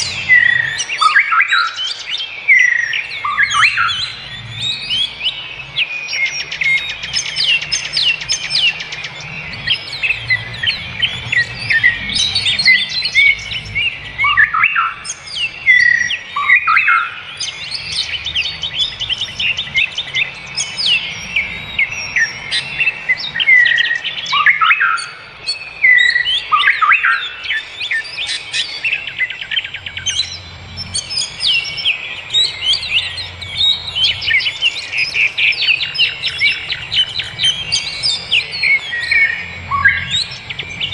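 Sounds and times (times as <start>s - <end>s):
forest birds singing: 0.0s - 40.9s.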